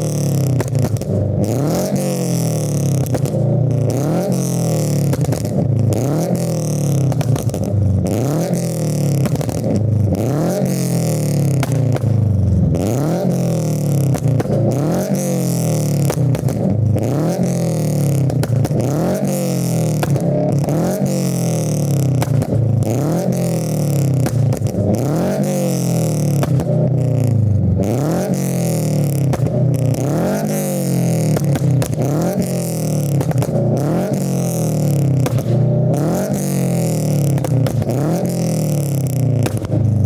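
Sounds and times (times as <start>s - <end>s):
car engine revving: 0.0s - 40.0s
exhaust pops and crackles: 0.0s - 40.0s.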